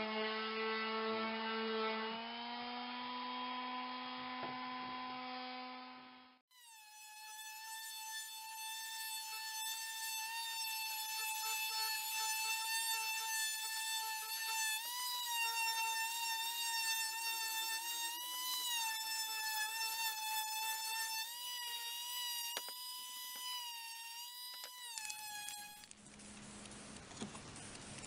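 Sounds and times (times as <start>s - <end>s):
electric sander whining: 0.0s - 25.9s.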